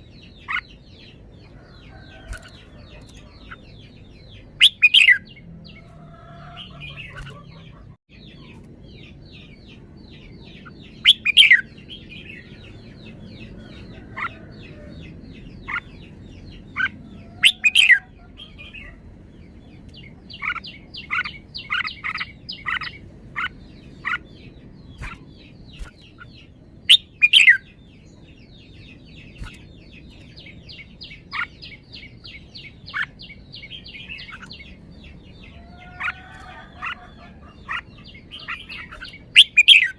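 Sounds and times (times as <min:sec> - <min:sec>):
bird chirping and singing: 0:00.0 - 0:39.9.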